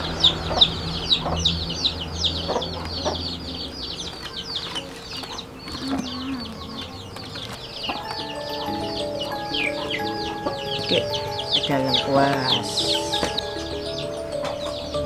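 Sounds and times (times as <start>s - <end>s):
background music: 0.0s - 4.0s, 6.4s - 15.0s
chicks peeping: 0.0s - 15.0s.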